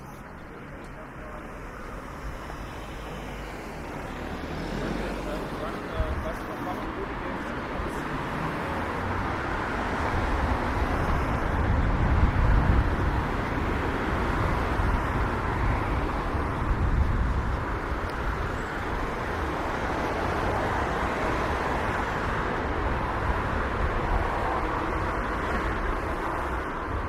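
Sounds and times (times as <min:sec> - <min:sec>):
passing cars rumbling: 0:00.0 - 0:27.0.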